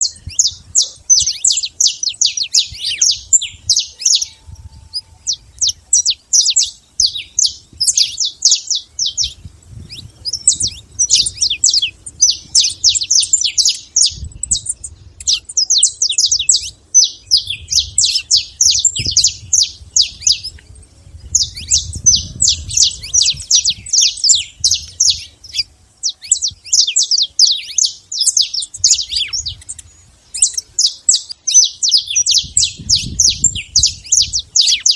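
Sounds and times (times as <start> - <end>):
finch chirping song: 0.0 - 34.9.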